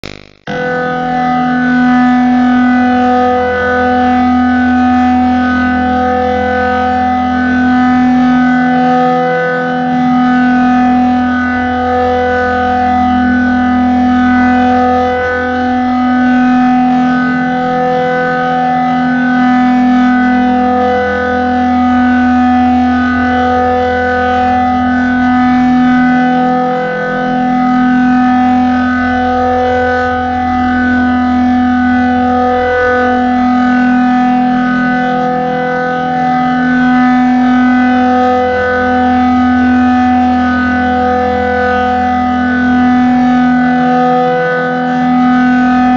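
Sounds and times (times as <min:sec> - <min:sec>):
pulsing warning siren: 0:00.0 - 0:45.9.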